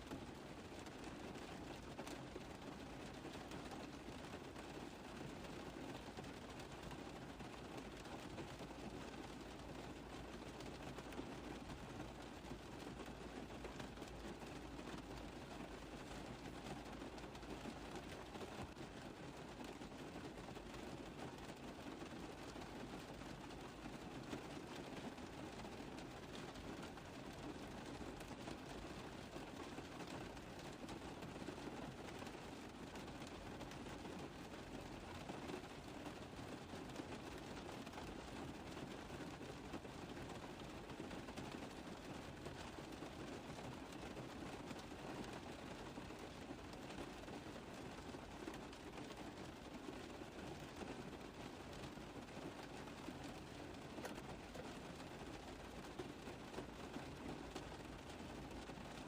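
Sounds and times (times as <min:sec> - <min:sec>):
rain tapping on car roof: 0:00.0 - 0:59.0.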